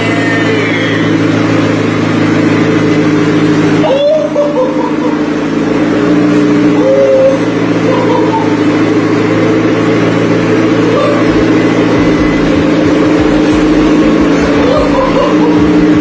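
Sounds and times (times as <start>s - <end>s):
sports car engine idling: 0.0s - 16.0s.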